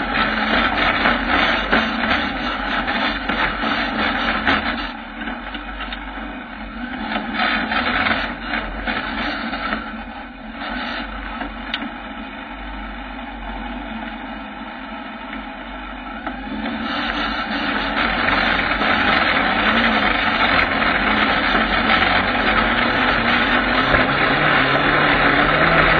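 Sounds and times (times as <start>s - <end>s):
motorcycle engine low revs: 0.0s - 25.9s.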